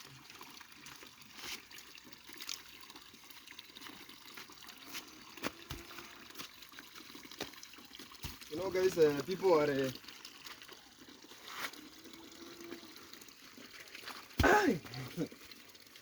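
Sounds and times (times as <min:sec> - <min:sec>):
stream trickling: 0:00.0 - 0:16.0.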